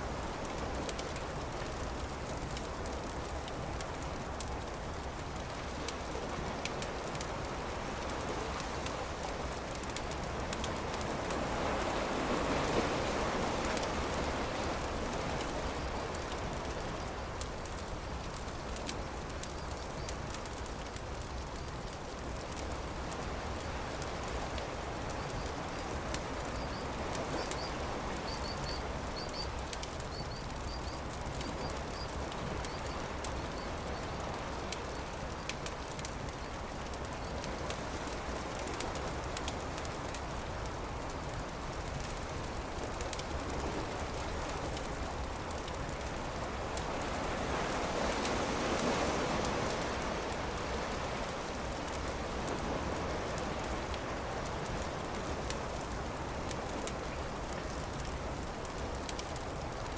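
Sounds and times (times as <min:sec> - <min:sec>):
campfire crackling: 0:00.0 - 0:59.9
surf washing: 0:00.0 - 0:59.9.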